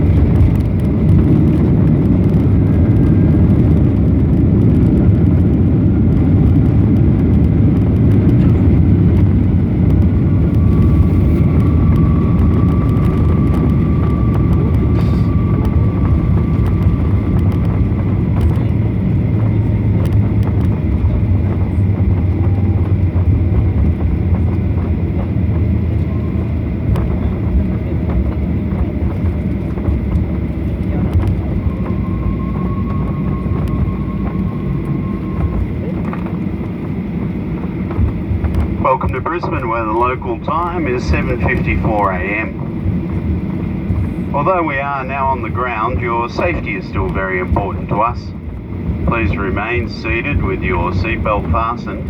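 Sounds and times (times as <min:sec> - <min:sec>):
faint engine whine: 0:00.0 - 0:52.0
jet engines low rumble: 0:00.0 - 0:52.0.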